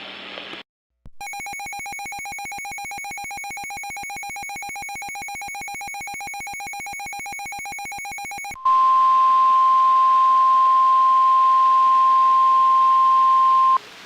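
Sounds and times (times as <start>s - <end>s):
loud steady high beep: 1.2s - 13.8s.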